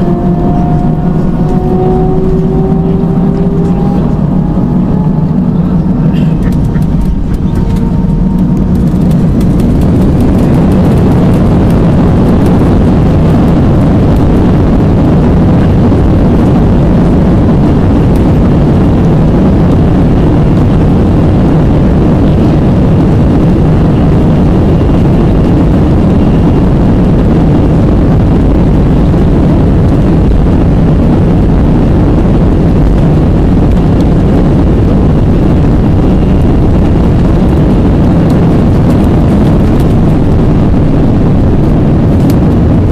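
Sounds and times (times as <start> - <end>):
jet engines roaring: 0.0 - 42.9.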